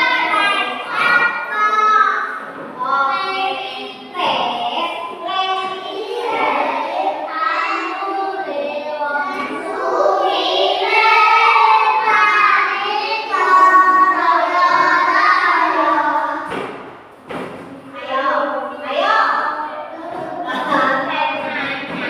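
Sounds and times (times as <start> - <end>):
child singing: 0.0 - 16.5, 18.0 - 22.0.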